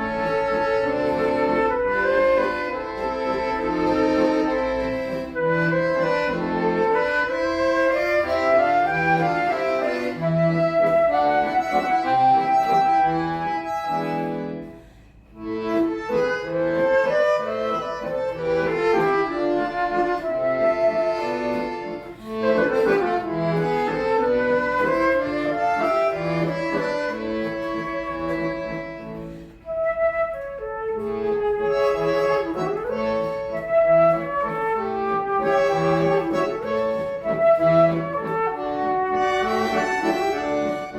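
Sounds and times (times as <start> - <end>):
button accordion playing: 0.0 - 40.9.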